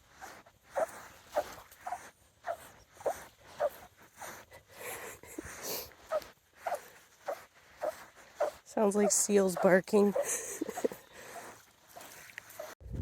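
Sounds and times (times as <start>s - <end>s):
footsteps squeaking in sand: 0.0s - 12.8s.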